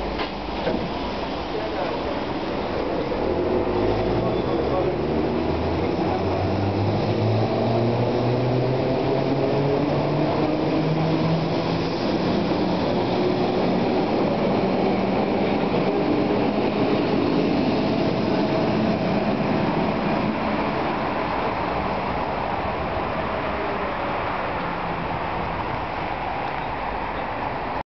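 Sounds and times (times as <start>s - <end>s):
train cars rumbling past: 0.0s - 27.8s.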